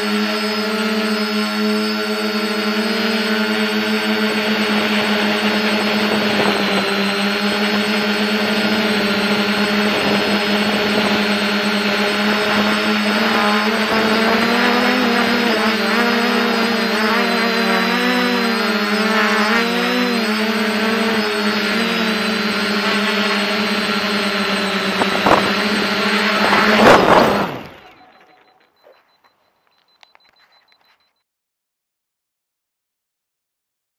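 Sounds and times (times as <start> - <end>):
quadcopter motors buzzing: 0.0 - 31.0.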